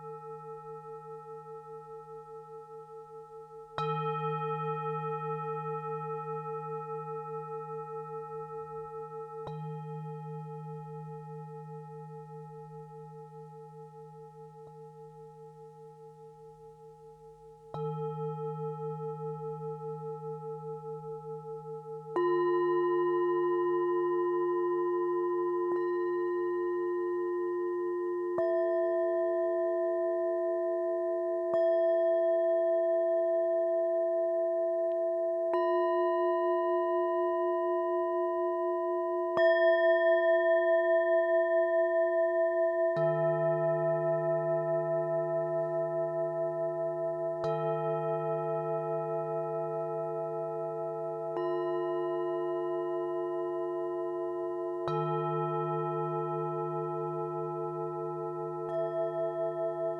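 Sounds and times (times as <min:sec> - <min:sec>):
deeper singing bowl: 0:00.0 - 0:59.9
singing bowls ringing: 0:00.0 - 0:59.9.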